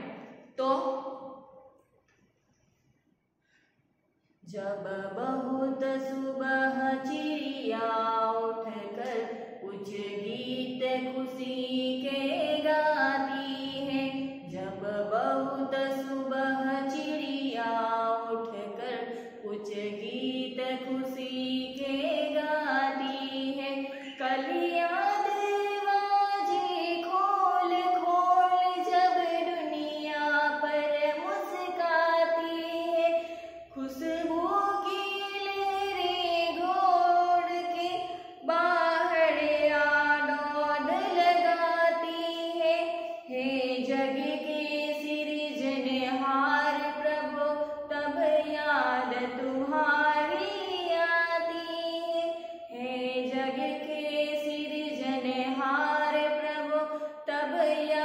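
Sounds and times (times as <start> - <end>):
woman singing unaccompanied: 4.5 - 58.0.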